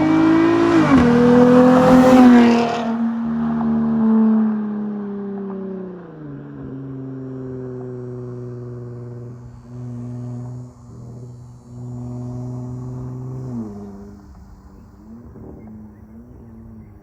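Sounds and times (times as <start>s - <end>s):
car engine while driving: 0.0s - 17.0s.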